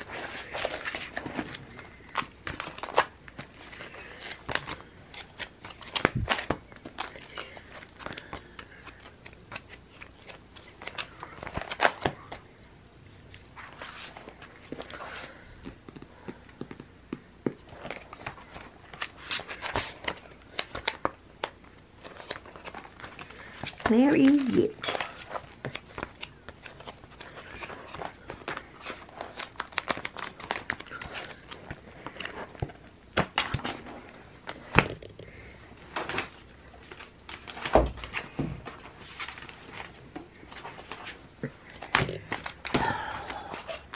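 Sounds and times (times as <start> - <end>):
plastic pages flipping: 0.0 - 12.4, 17.5 - 35.0, 35.9 - 42.8.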